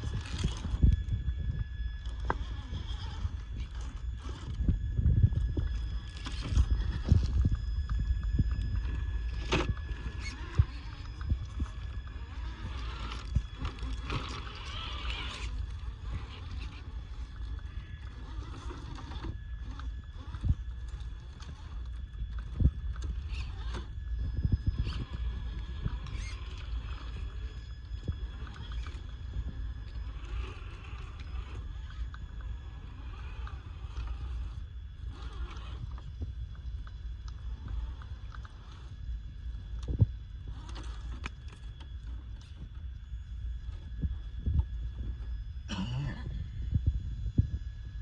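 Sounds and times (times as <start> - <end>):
faint electric motor whine: 0.0 - 48.0.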